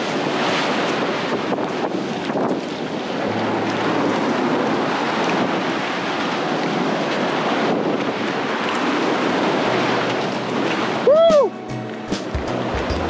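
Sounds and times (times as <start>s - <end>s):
wind buffeting microphone: 0.0s - 12.9s
surf breaking against seawall: 0.0s - 13.0s.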